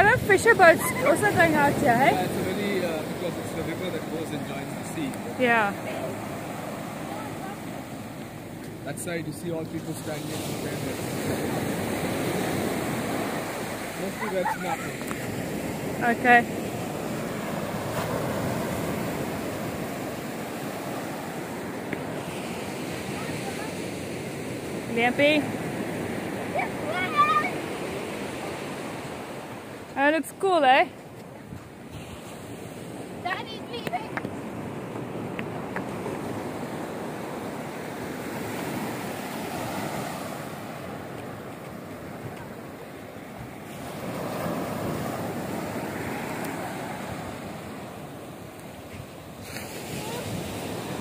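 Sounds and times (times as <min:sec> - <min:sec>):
waves washing up beach: 0:00.0 - 0:51.0.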